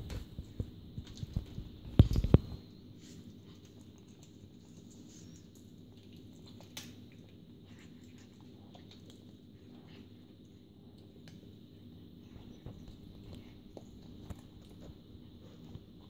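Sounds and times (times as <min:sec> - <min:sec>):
cats crunching raw meat and bone: 0:00.0 - 0:16.0.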